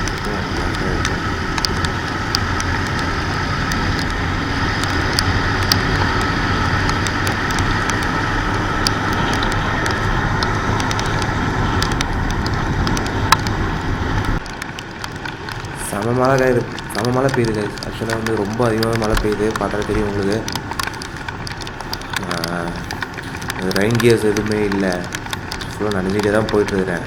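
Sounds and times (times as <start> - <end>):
raindrops ticking on microphone: 0.0 - 27.0
wet road noise: 0.0 - 27.0.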